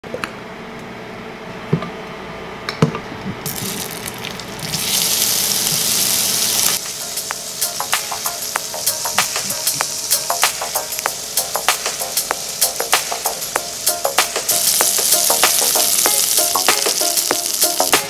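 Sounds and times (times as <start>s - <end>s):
butter sizzling in a pan: 3.5s - 18.0s.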